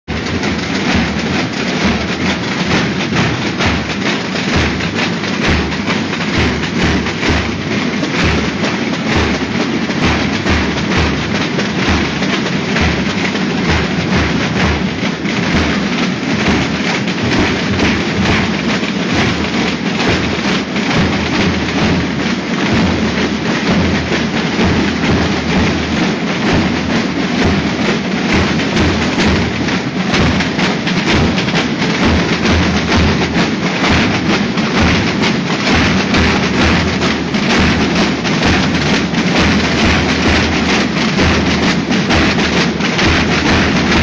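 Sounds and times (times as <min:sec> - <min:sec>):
bass drum thumps: 0:00.0 - 0:44.0
snare drum rolls: 0:00.0 - 0:44.0.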